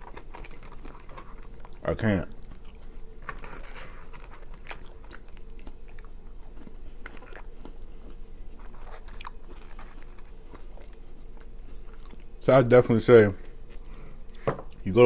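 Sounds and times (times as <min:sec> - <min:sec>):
faint steady hum: 0:00.0 - 0:15.0
person chewing and crunching food: 0:00.0 - 0:15.0.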